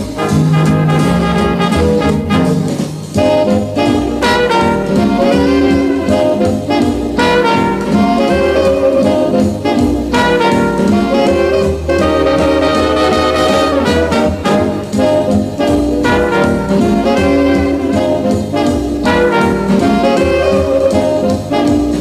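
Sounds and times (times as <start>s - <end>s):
jazz music with brass: 0.0s - 22.0s.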